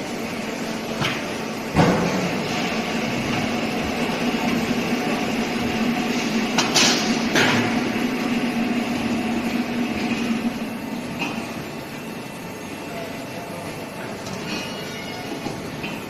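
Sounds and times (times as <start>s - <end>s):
hydraulic press humming: 0.0s - 16.0s.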